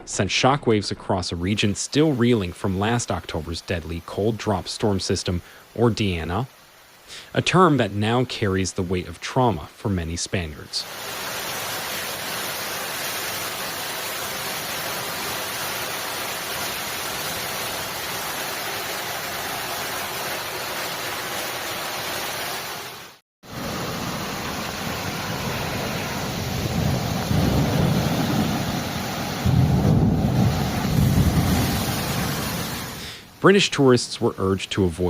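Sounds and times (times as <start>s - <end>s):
heavy rain downpour: 1.1s - 35.0s.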